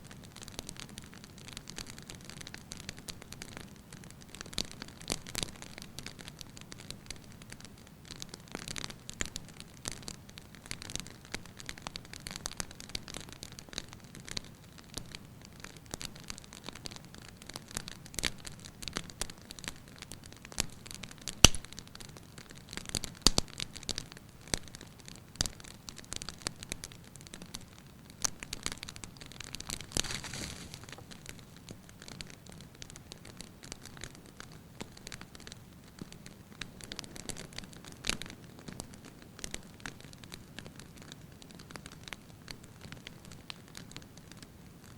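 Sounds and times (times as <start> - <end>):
firewood crackling: 0.0 - 44.9
soft fire hiss: 0.0 - 44.9.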